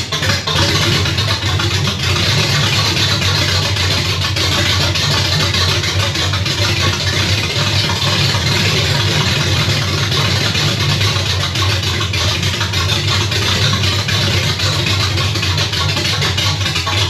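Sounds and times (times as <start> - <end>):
engine idling on open headers: 0.0 - 17.0.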